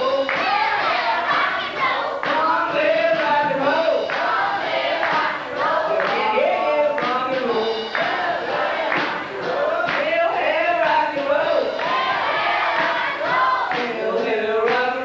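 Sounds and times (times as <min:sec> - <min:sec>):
live rock music: 0:00.0 - 0:15.0
people singing together: 0:00.0 - 0:15.0.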